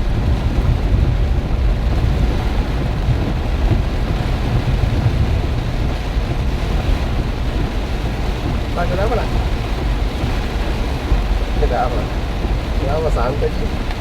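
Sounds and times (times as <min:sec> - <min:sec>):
gusting wind: 0:00.0 - 0:14.0
heavy rain: 0:00.0 - 0:14.0.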